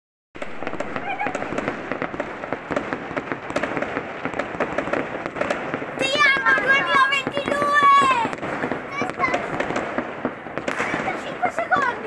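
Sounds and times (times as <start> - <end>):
fireworks crackling: 0.4 - 12.0.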